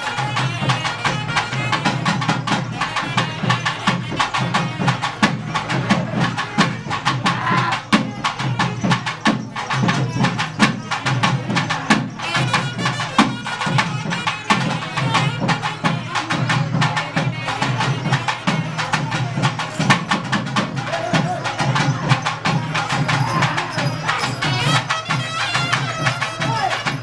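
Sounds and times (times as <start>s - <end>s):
rapid drum strokes: 0.0s - 27.0s.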